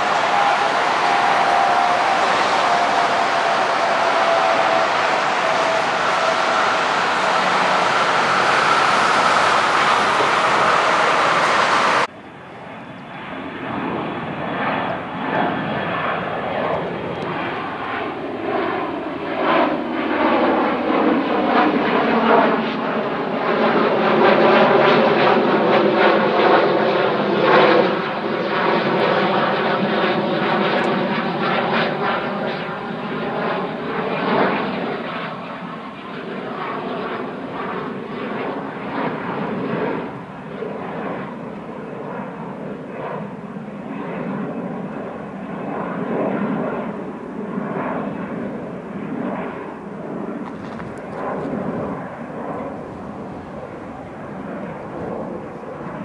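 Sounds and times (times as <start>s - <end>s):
jet engine rush: 0.0s - 25.4s, 29.2s - 56.0s
jet roar climbing: 0.0s - 56.0s.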